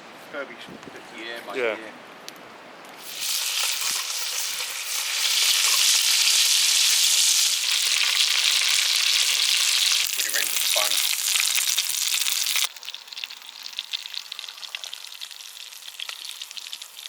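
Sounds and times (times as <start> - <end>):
meat sizzling in a pan: 3.0 - 17.0.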